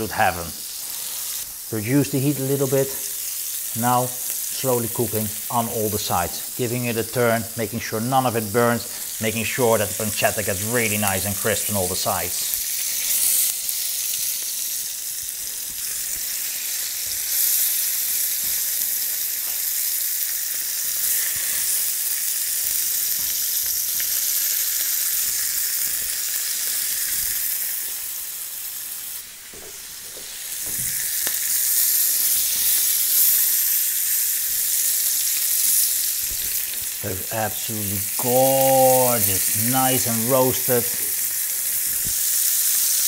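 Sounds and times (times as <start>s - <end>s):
fish sizzling in a frying pan: 0.0s - 43.0s.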